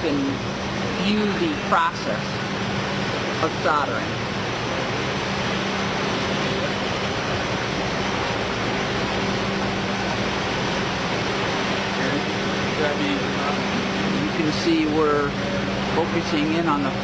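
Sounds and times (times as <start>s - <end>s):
hiss of fans and blowers: 0.0s - 17.0s
soldering machine running: 0.0s - 17.0s.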